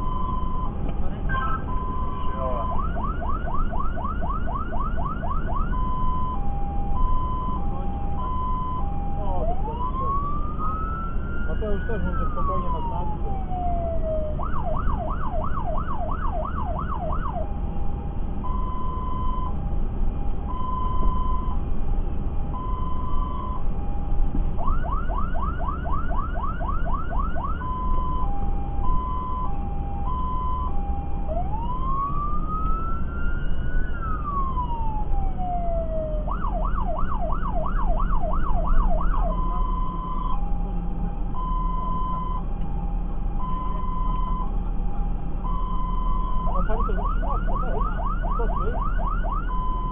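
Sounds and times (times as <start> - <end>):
fire engine siren: 0.0 - 49.9
truck engine and tyres rumble: 0.0 - 49.9.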